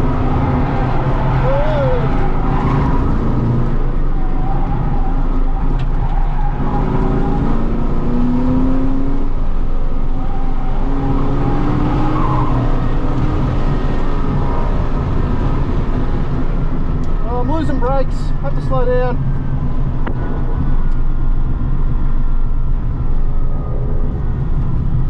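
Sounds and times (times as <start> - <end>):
car engine running hard: 0.0 - 25.0.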